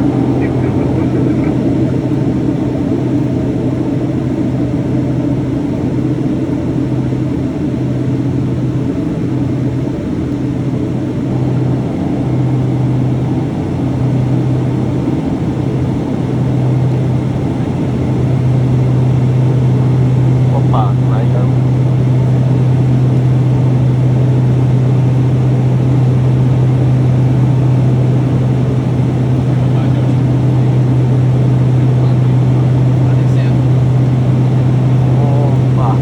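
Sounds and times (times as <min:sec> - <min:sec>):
pulsing low hum: 0:00.0 - 0:36.0
turboprop engines droning: 0:00.0 - 0:36.0.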